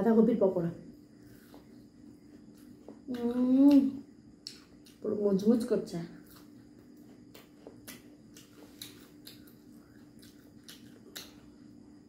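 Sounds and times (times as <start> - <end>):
crunchy fried food being chewed: 1.2 - 12.0.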